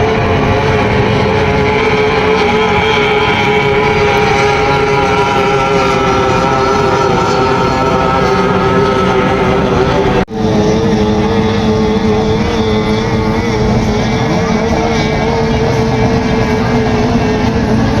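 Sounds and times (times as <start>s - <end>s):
powerboat engine running loud: 0.0s - 18.0s.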